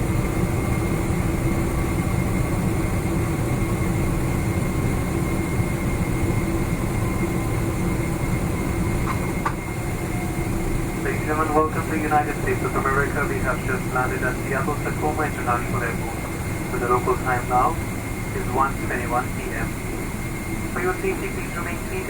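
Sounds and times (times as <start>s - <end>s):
faint steady whine: 0.0s - 22.0s
low rumble in aircraft cabin: 0.0s - 22.0s.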